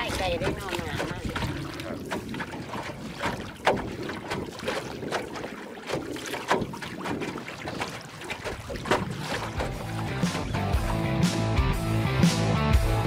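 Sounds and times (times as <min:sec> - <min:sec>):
paddle splashing in water: 0:00.0 - 0:12.1
water wash: 0:00.0 - 0:13.0
wind: 0:00.0 - 0:13.0.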